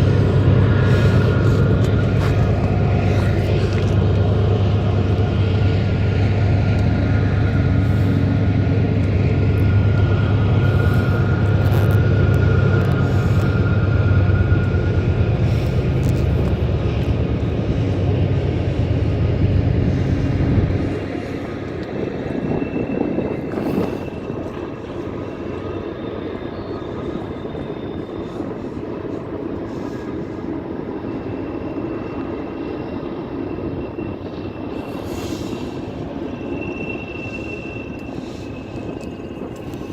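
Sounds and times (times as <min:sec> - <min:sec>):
diesel locomotive engine rumble: 0:00.0 - 0:39.9
train cars rolling: 0:00.0 - 0:39.9.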